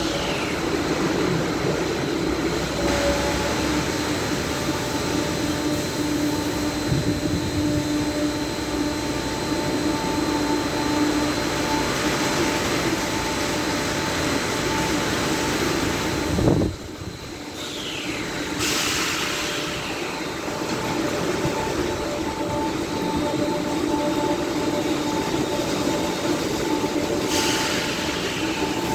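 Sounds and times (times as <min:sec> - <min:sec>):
car wash machinery running: 0:00.0 - 0:28.9
falling whine: 0:00.0 - 0:28.9
hiss: 0:00.0 - 0:28.9.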